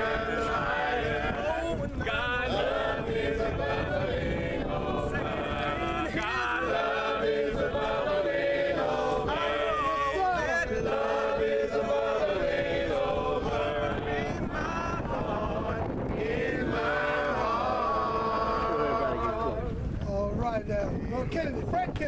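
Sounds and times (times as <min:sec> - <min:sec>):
group singing a cappella: 0:00.0 - 0:19.9.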